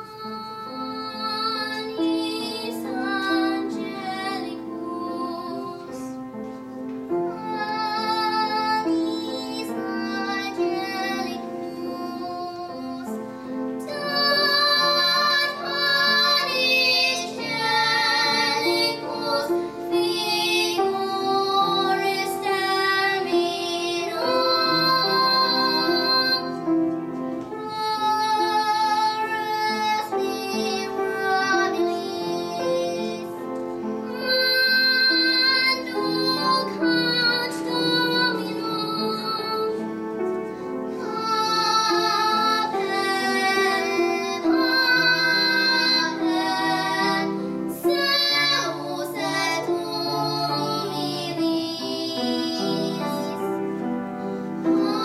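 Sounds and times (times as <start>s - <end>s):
girls singing: 0.0s - 6.2s, 7.0s - 39.9s, 40.9s - 53.9s, 54.6s - 55.0s
grand piano: 0.0s - 55.0s.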